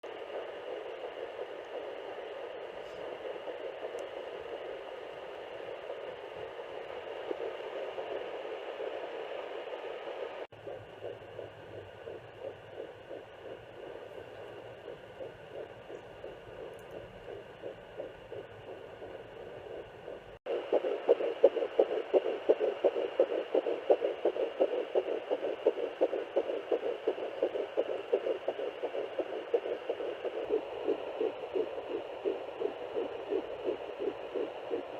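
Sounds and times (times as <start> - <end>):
fetal heartbeat whooshing pulse: 0.0 - 34.9.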